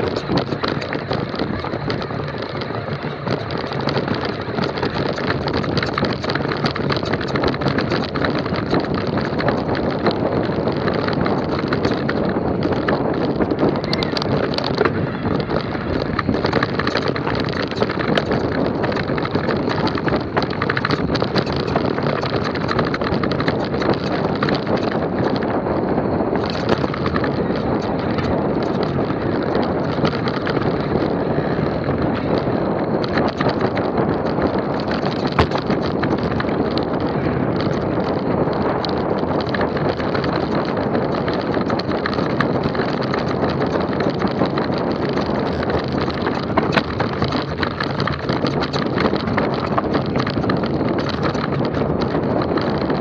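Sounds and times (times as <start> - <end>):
bike rattling over stones: 0.0 - 53.0
tyres crunching over gravel: 0.0 - 53.0
wind on microphone: 0.0 - 53.0.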